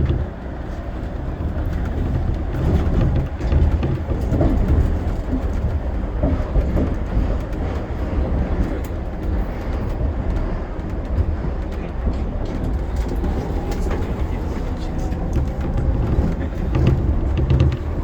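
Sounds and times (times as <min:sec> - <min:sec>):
monorail train low rumble: 0:00.0 - 0:18.0.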